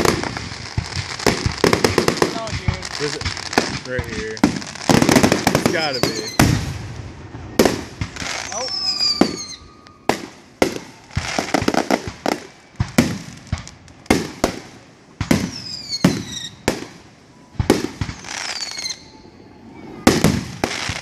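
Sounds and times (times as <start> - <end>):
fireworks whistles falling in pitch: 0.0 - 14.6, 15.2 - 16.9, 17.5 - 21.0
fireworks booming: 0.0 - 21.0
fireworks crackling: 0.0 - 21.0.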